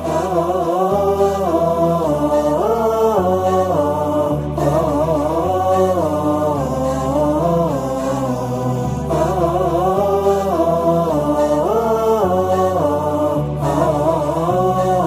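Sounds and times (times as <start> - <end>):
low drone: 0.0 - 15.0
wordless chanted melody: 0.0 - 15.0.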